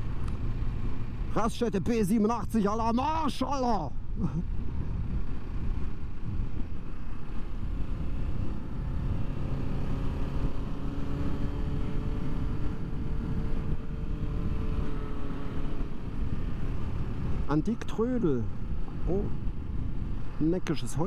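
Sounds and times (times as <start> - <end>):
wind noise: 0.0 - 21.0.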